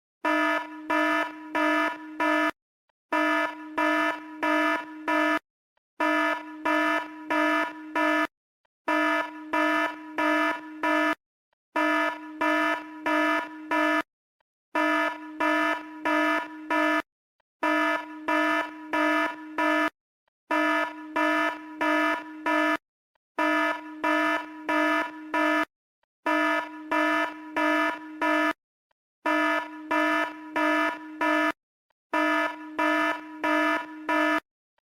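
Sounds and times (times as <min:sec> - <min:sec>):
electronic alarm buzzing: 0:00.2 - 0:05.4, 0:06.0 - 0:08.3, 0:08.9 - 0:11.2, 0:11.8 - 0:14.1, 0:14.8 - 0:22.8, 0:23.4 - 0:25.7, 0:26.3 - 0:28.6, 0:29.2 - 0:34.4.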